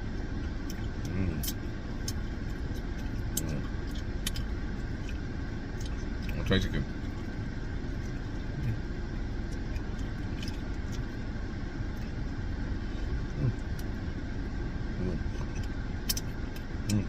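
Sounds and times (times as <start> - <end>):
car interior engine rumble: 0.0 - 17.0.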